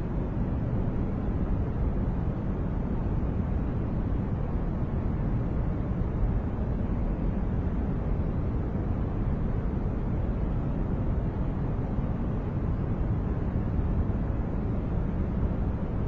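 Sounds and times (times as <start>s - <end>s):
deep white noise: 0.0s - 16.0s.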